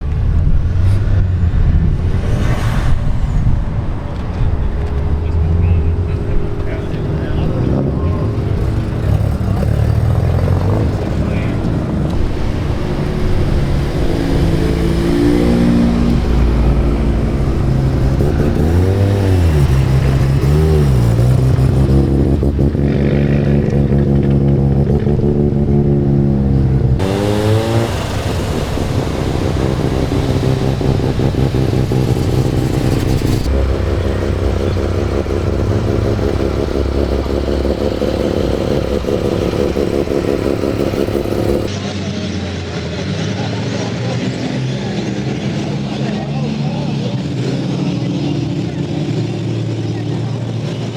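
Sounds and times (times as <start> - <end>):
car engines idling: 0.0 - 50.9
engine revving: 0.0 - 50.9.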